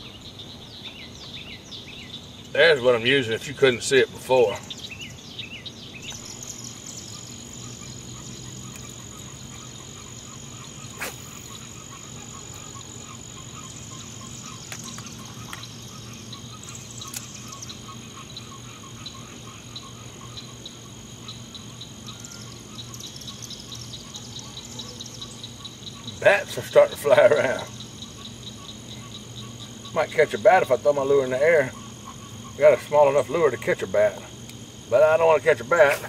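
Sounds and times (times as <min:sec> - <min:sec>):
frogs calling rapidly: 0:00.0 - 0:36.0
insect drone: 0:00.0 - 0:36.0.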